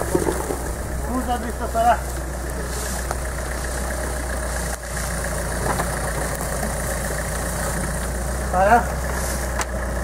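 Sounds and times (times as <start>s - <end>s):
truck engine running at low revs: 0.0s - 10.0s.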